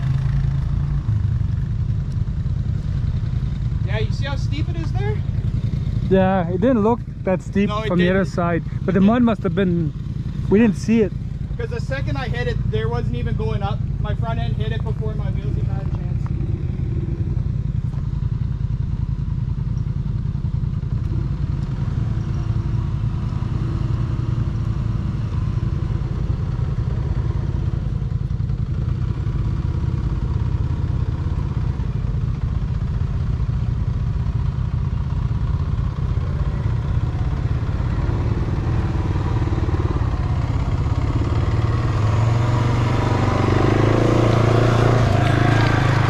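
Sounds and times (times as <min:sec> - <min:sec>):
atv engine running and revving: 0:00.0 - 0:46.0.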